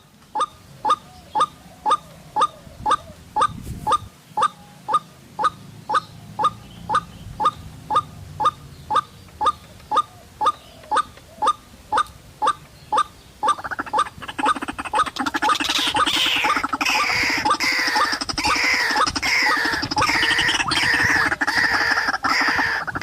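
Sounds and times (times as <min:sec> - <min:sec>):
waterhen calling: 0:00.0 - 0:23.0.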